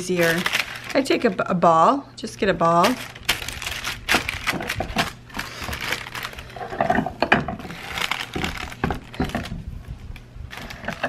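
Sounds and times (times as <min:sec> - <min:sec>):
parchment paper rustling: 0:00.0 - 0:01.6, 0:02.5 - 0:11.0.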